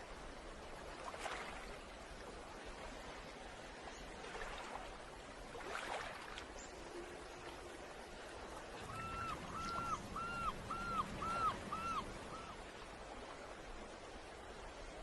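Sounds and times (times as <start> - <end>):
faint sea waves washing ashore: 0.0 - 15.0.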